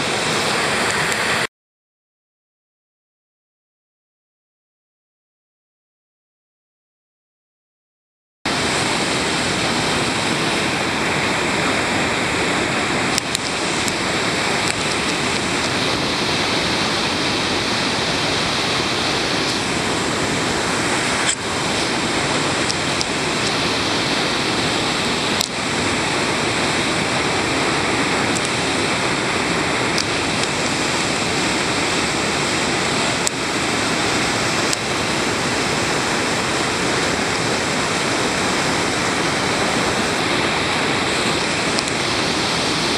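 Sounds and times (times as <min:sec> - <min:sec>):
river rapids roaring: 0:00.0 - 0:01.5, 0:08.5 - 0:42.9.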